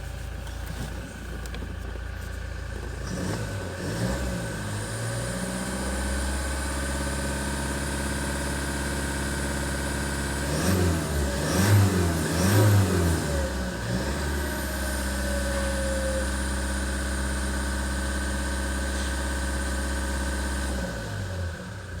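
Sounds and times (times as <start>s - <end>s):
diesel engine idling and revving: 0.0s - 22.0s.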